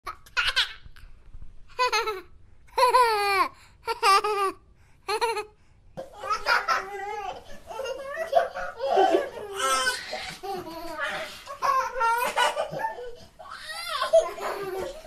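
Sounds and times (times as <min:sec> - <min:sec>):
child laughing and babbling: 0:01.8 - 0:05.5, 0:06.1 - 0:15.0.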